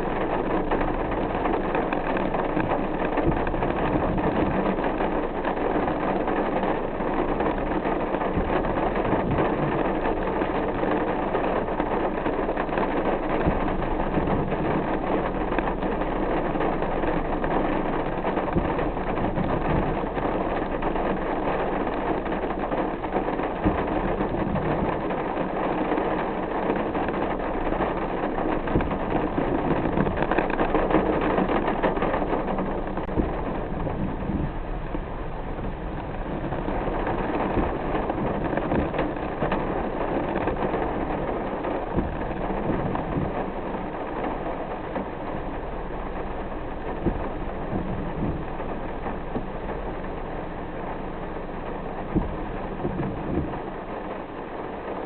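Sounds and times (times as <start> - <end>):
car engine running: 0.0 - 55.0
rain and wet road noise: 0.0 - 55.0.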